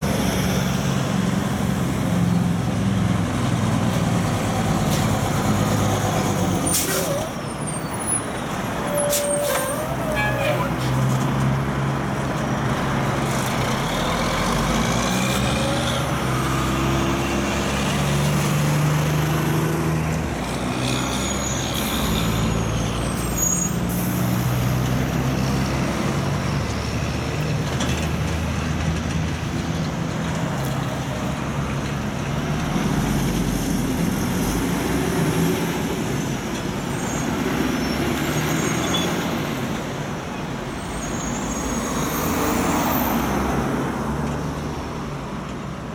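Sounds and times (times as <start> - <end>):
diesel trucks driving past: 0.0 - 45.9
steady traffic noise: 0.0 - 45.9.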